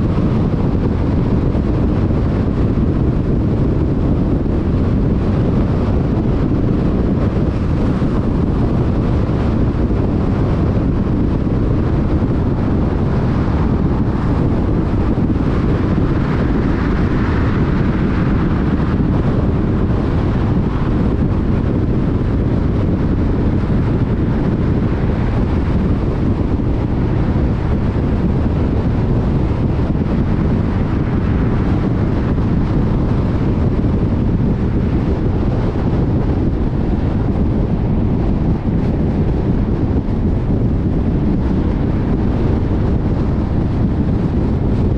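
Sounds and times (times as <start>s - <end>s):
wind noise: 0.0s - 44.9s.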